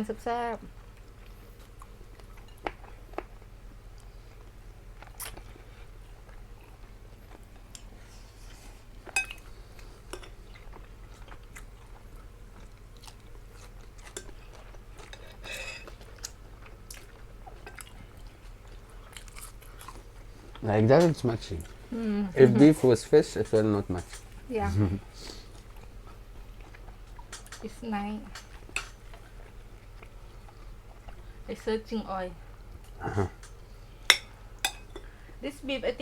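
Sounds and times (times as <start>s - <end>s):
people chewing food: 0.4s - 35.4s.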